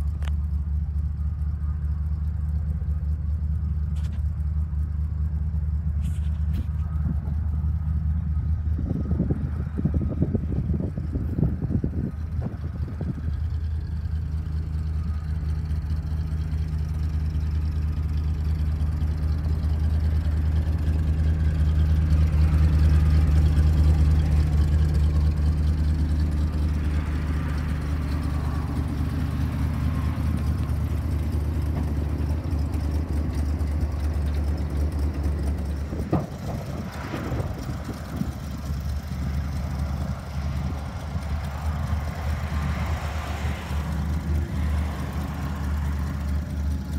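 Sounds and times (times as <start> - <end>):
truck engine idling: 0.0 - 46.9.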